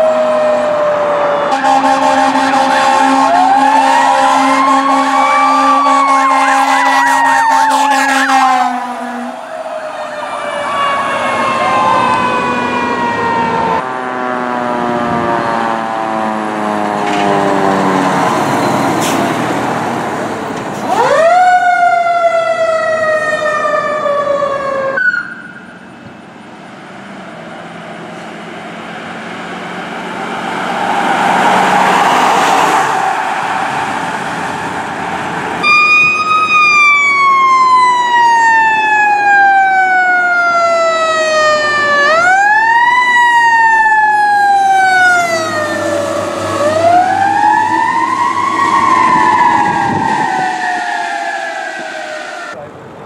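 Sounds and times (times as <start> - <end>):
fire truck sirens wailing: 0.0 - 53.0
truck engine and road noise: 0.0 - 53.0.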